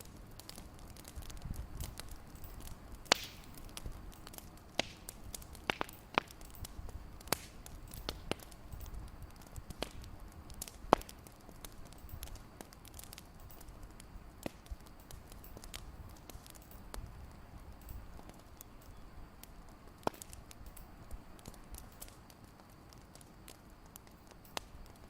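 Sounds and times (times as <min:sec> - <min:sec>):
faint steady hiss: 0:00.0 - 0:25.0
fire crackling and popping: 0:00.0 - 0:25.0.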